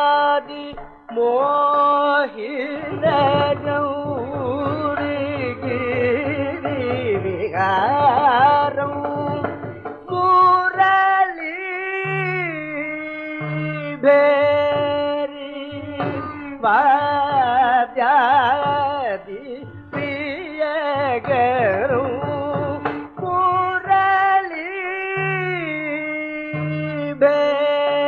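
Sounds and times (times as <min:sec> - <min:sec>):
man singing: 0:00.0 - 0:28.0
violin: 0:00.0 - 0:28.0
hand drum: 0:00.7 - 0:27.4.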